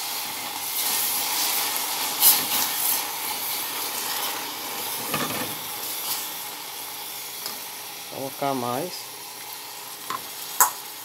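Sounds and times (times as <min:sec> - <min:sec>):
syrup hissing and sizzling in saucepan: 0:00.0 - 0:11.0.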